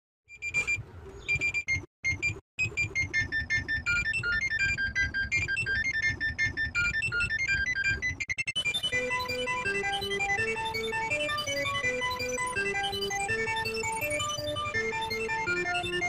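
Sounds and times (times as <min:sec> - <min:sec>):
rapid electronic alarm beeps: 0:00.3 - 0:16.0.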